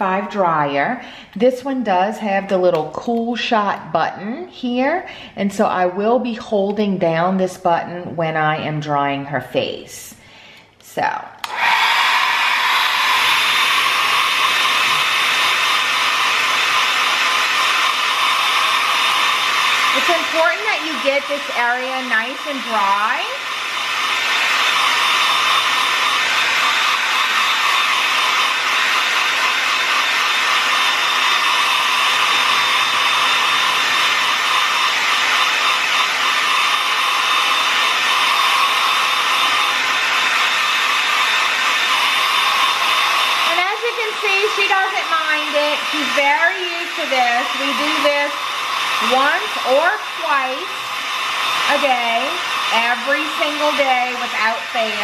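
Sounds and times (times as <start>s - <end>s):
hair dryer blowing: 0.0s - 9.4s, 10.1s - 55.0s.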